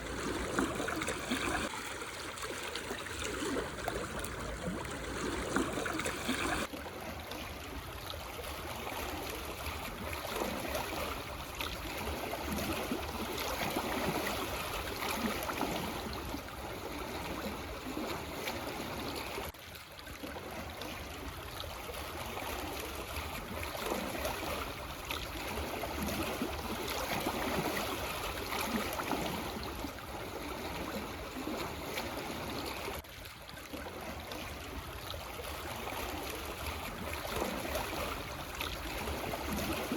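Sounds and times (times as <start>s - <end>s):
waves lapping over stones: 0.0s - 19.3s, 20.1s - 39.9s.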